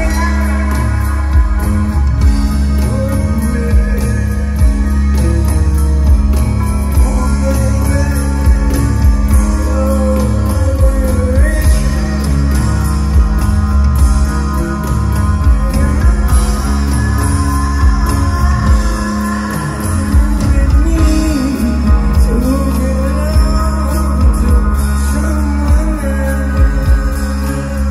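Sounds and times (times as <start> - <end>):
bass line: 0.0 - 27.9
drums with cymbal hits: 0.0 - 27.9
electric guitar: 0.0 - 27.9
person singing: 0.0 - 27.9.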